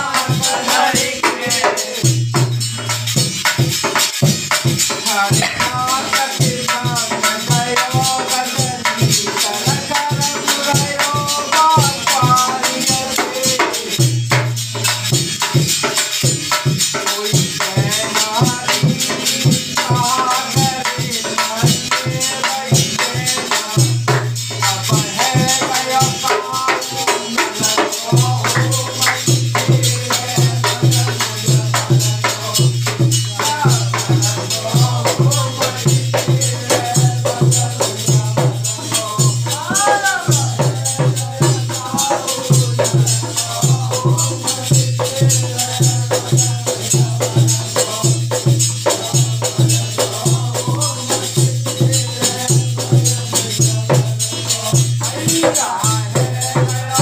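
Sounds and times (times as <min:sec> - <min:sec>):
jingling hand percussion: 0:00.0 - 0:57.0
men singing: 0:00.0 - 0:57.0.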